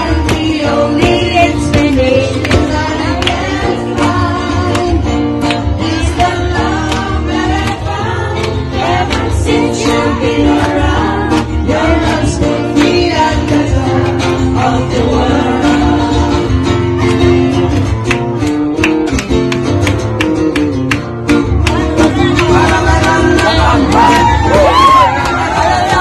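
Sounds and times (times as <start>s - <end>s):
person singing: 0.0s - 16.6s, 21.7s - 26.0s
acoustic guitar: 0.0s - 26.0s
bass line: 0.0s - 26.0s.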